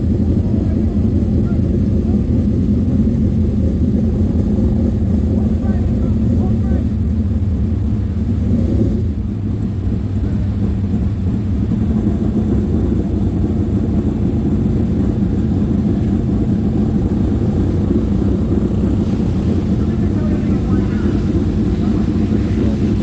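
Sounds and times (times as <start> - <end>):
race car engine droning: 0.0 - 23.0.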